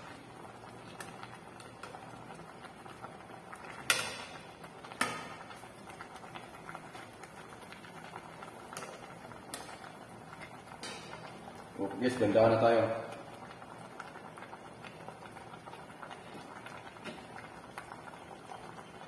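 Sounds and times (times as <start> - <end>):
soup simmering and bubbling: 0.0 - 19.0.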